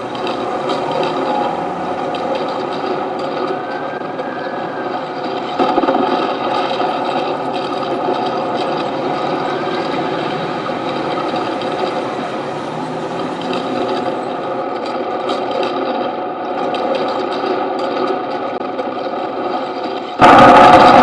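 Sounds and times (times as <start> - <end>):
mechanical whirring and grinding: 0.0 - 21.0.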